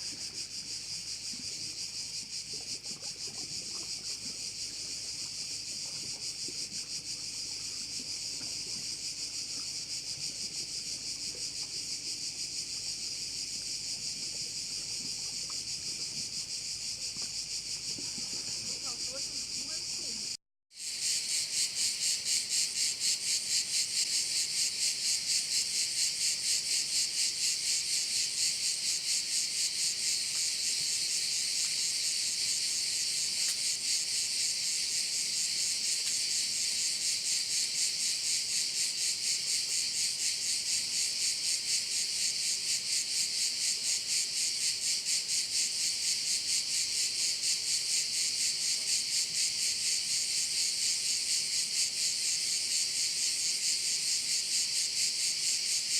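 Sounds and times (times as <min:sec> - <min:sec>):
cicadas buzzing: 0:00.0 - 0:55.9.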